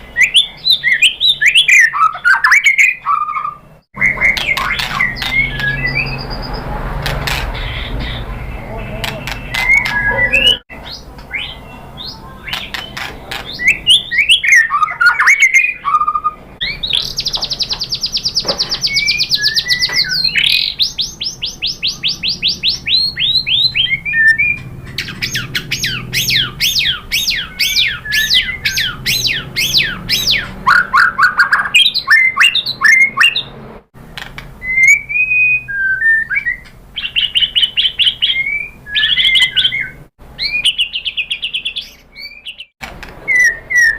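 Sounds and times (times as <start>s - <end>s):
bird singing whistles and trills: 0.0s - 6.7s, 7.6s - 33.5s, 34.6s - 42.7s, 43.3s - 43.9s.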